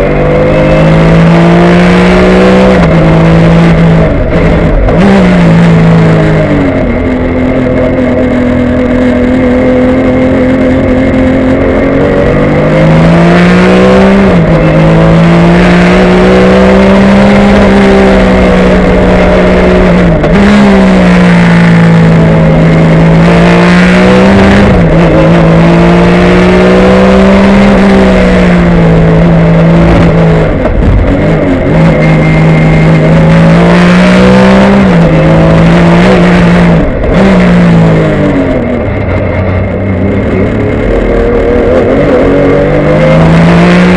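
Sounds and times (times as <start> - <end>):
race car engine at full throttle: 0.0 - 43.9.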